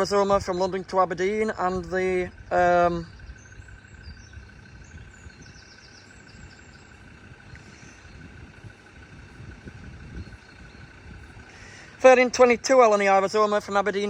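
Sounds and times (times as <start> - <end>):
distant traffic: 0.0 - 14.0
low rumble of wind: 0.0 - 14.0.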